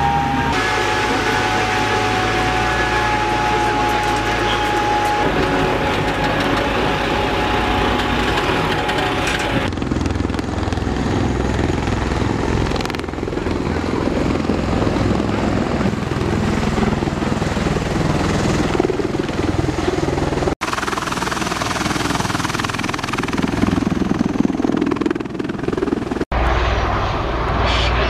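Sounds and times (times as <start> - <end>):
heavy rotor and engine din: 0.0 - 28.0.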